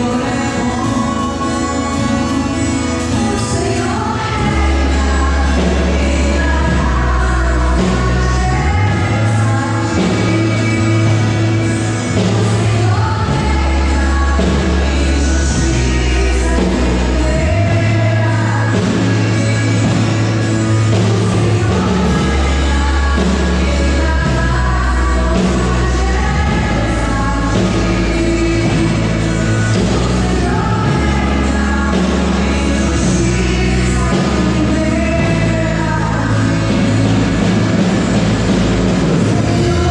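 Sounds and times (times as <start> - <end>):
electric bass low notes: 0.0 - 39.9
live band with singing: 0.0 - 39.9.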